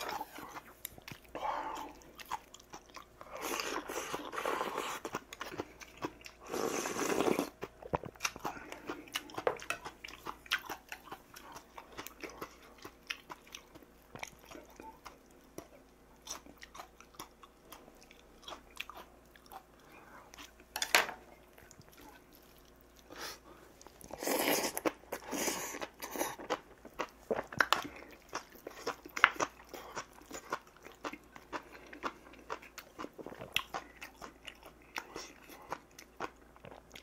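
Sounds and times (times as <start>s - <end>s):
man chewing: 0.0s - 37.0s.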